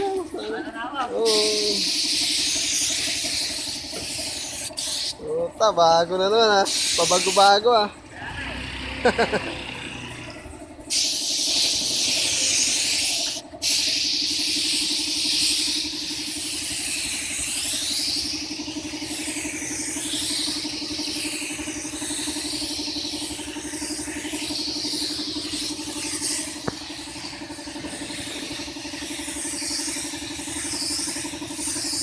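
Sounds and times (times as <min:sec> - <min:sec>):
paint spray gun hissing: 0:00.0 - 0:08.0, 0:10.3 - 0:32.0
steady low hum: 0:00.0 - 0:08.3, 0:09.0 - 0:32.0.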